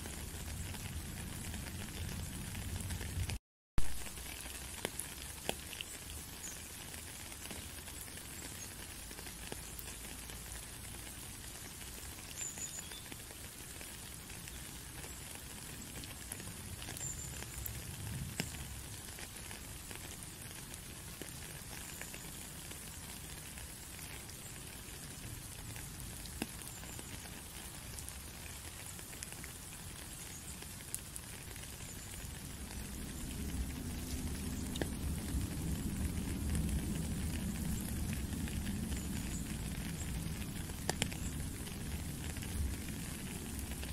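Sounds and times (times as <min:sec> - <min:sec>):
rain falling on puddle: 0:00.0 - 0:43.9.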